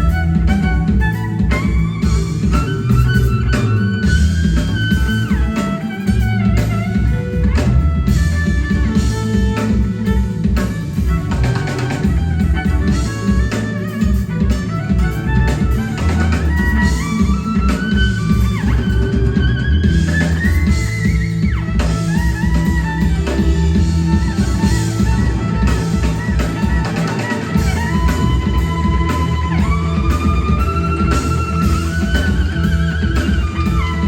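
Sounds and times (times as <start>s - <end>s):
bass guitar: 0.0s - 34.0s
drum kit: 0.0s - 34.0s
guitar with sliding notes: 0.0s - 34.0s.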